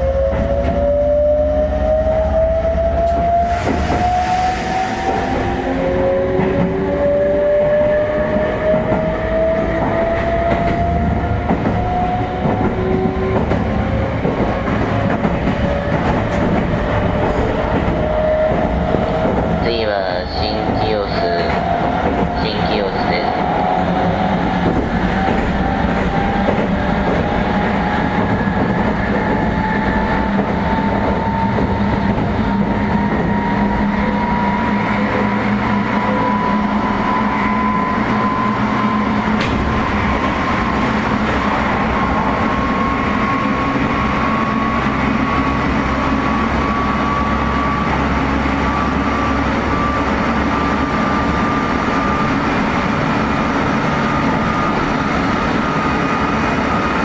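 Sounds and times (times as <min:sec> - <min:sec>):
rumble of train wheels: 0:00.0 - 0:57.0.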